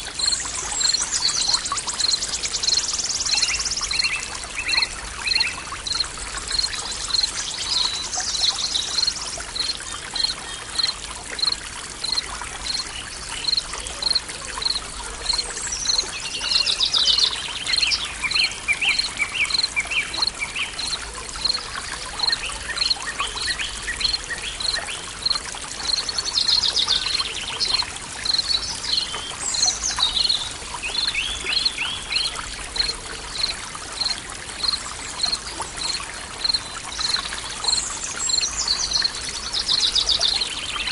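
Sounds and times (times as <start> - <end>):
stream of water running: 0.0 - 40.9.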